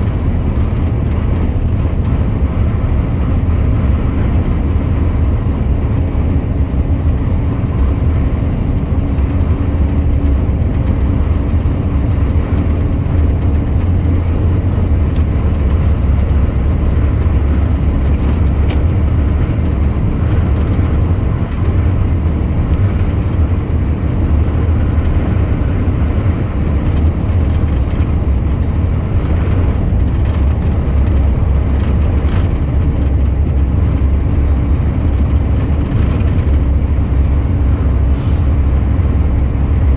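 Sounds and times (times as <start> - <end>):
truck driving drone: 0.0 - 39.9.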